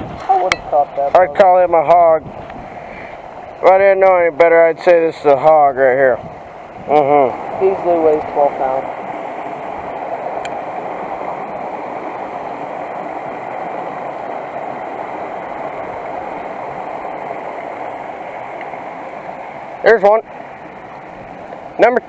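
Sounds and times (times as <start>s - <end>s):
creek water running over rocks: 0.0s - 22.0s.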